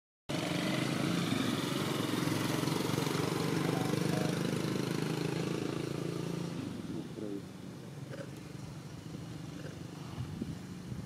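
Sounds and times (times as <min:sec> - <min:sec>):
small engine idling: 0:00.3 - 0:11.0.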